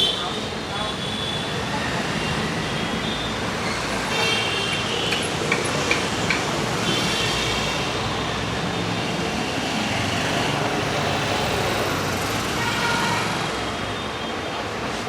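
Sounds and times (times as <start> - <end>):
roadside traffic noise: 0.0 - 15.0.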